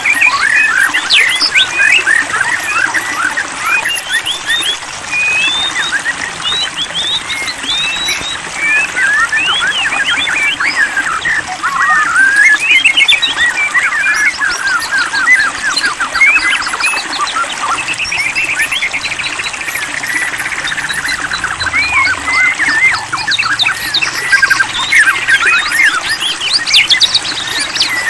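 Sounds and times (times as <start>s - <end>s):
songbird singing chirps and trills: 0.0s - 28.0s.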